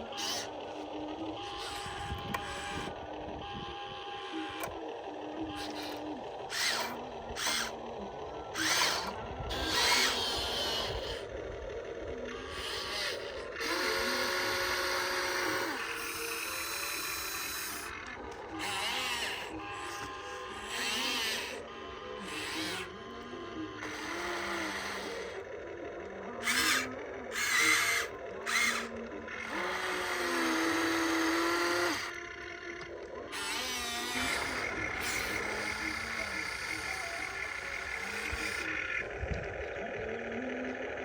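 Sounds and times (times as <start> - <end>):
small electric motors whining: 0.0 - 41.0.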